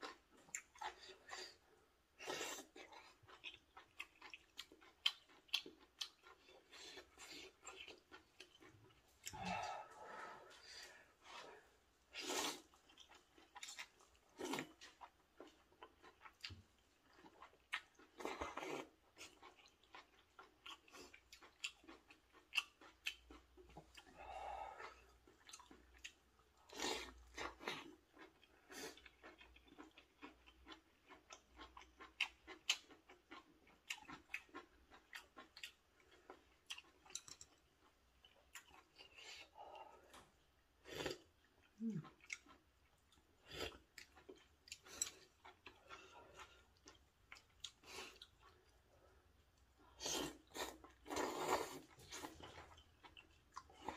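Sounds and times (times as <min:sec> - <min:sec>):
wet chewing and smacking: 0:00.0 - 0:09.6, 0:11.1 - 0:53.9.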